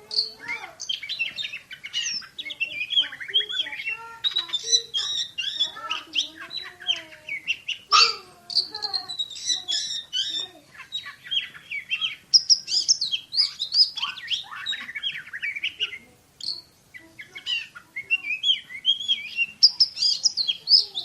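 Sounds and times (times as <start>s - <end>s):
songbird singing rapid chirps: 0.0s - 21.0s.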